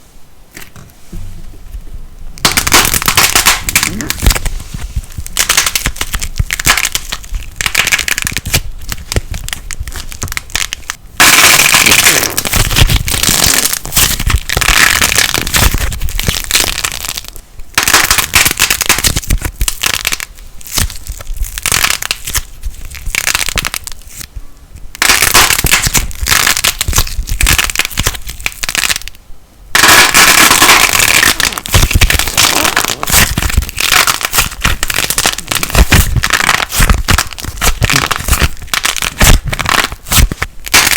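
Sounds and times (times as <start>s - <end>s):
foam clay crackling when squeezed: 2.4s - 40.9s.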